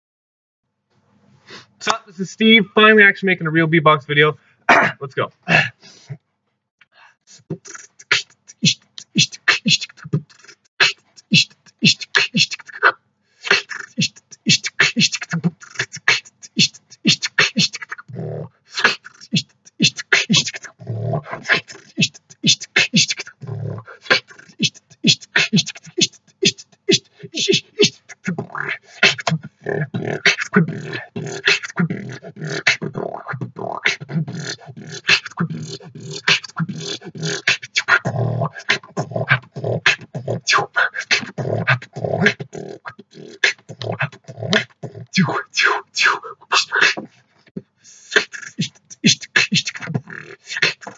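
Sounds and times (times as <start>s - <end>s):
person beatboxing: 1.8s - 2.6s, 7.3s - 50.9s.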